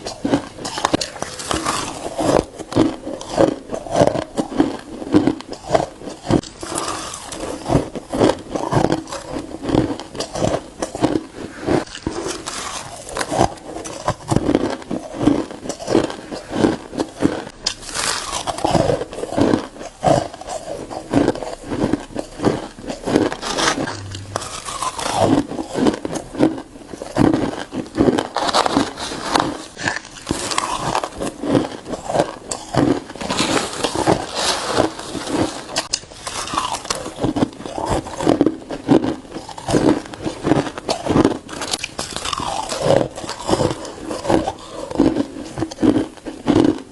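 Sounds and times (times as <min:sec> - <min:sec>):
crushed ice being chewed: 0:00.0 - 0:46.9.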